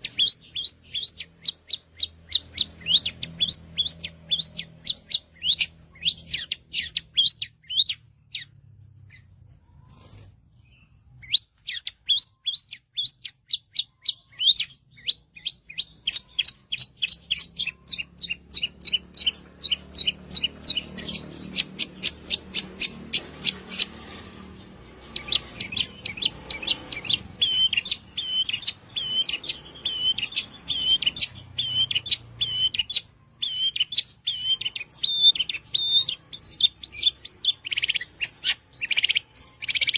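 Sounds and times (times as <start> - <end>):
shrike singing rapid chirps: 0.0 - 9.3, 11.1 - 39.9.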